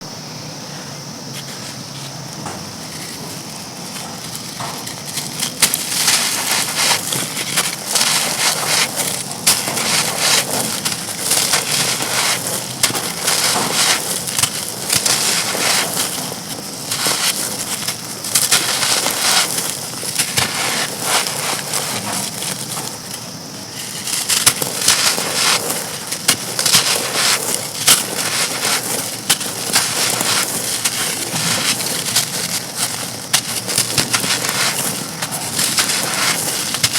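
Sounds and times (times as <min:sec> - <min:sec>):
stone bricks crunching: 0:01.4 - 0:36.9.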